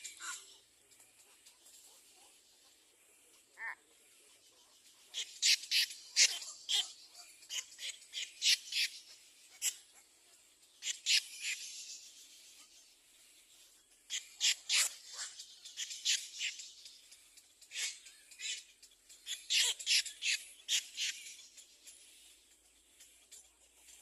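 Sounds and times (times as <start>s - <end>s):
nestlings raspy begging calls: 0.0s - 12.9s, 14.0s - 22.2s.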